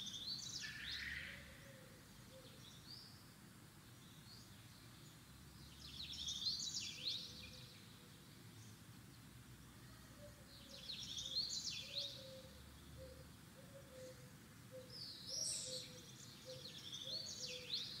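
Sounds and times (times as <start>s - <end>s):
faint songbird chirping: 0.0s - 18.0s.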